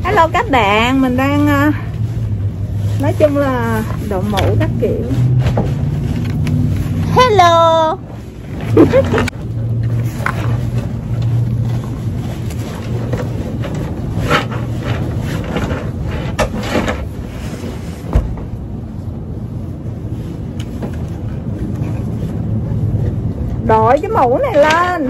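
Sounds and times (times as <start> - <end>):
motor vehicle rumbling: 0.0 - 25.0.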